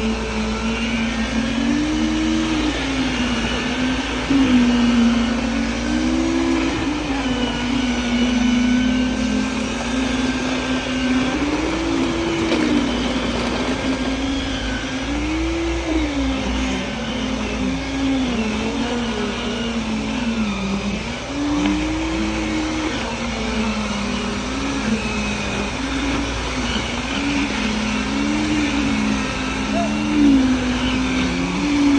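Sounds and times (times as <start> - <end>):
concrete vibrator motor humming: 0.0 - 31.9.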